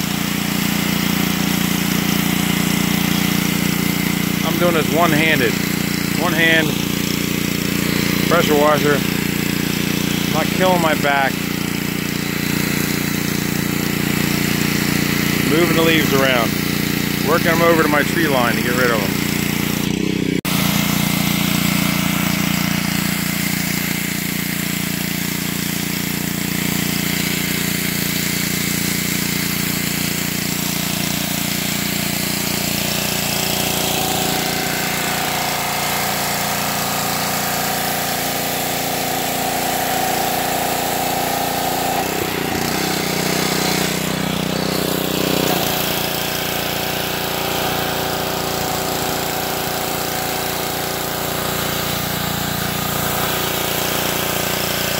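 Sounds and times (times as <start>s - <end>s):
high-pressure water jet hissing: 0.0s - 54.9s
pressure washer engine drone: 0.0s - 54.9s.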